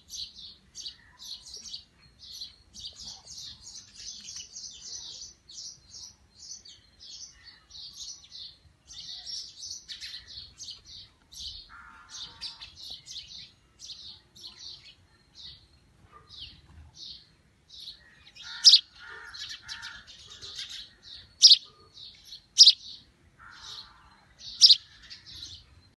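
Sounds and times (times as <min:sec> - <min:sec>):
sparrow chirping: 0:00.0 - 0:26.0.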